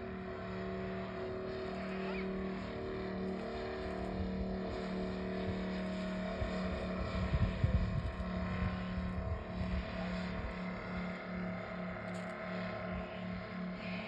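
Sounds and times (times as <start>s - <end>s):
model aircraft engines droning: 0.0s - 14.0s.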